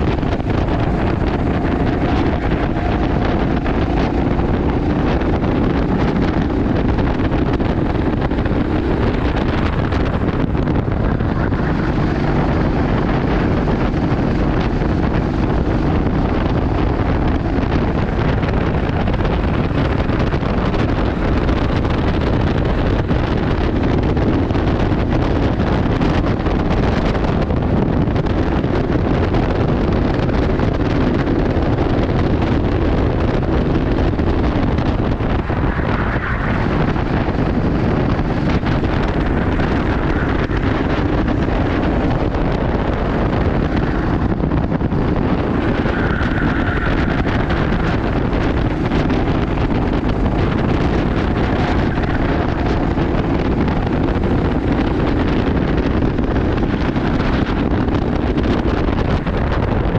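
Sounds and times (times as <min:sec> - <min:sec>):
go-kart engine running: 0:00.0 - 0:59.9
wind noise on microphone: 0:00.0 - 0:59.9.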